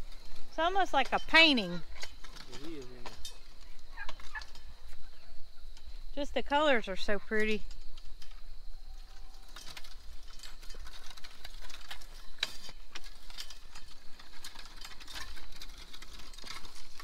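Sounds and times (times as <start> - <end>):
push hoe rattling and scraping soil: 0.0 - 5.0, 7.8 - 17.0.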